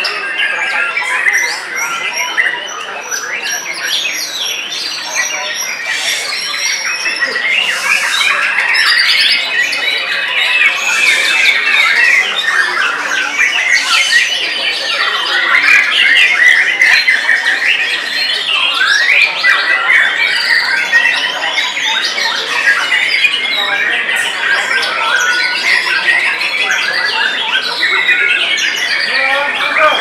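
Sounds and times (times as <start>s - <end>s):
birds singing whistles and trills: 0.0s - 30.0s.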